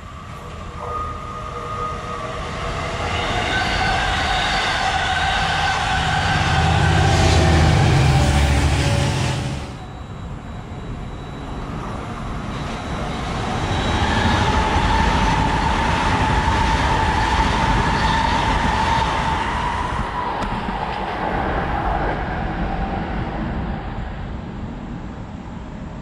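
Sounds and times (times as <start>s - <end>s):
train high whine: 0.0s - 26.0s.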